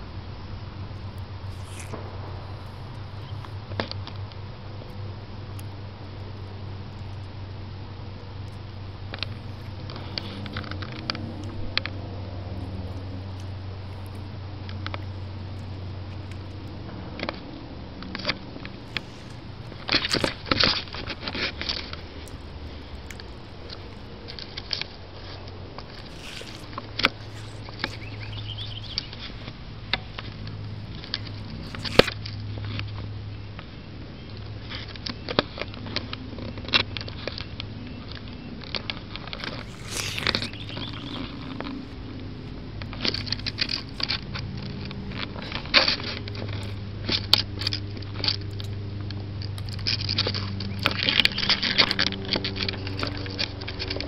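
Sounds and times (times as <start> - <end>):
cat chewing and crunching: 0.7 - 32.8, 38.8 - 54.0.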